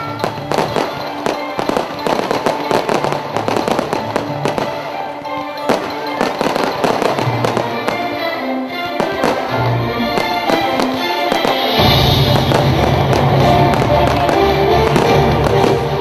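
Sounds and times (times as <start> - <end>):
fireworks cracking and banging: 0.0 - 8.2, 8.9 - 16.0
loud music: 0.0 - 16.0.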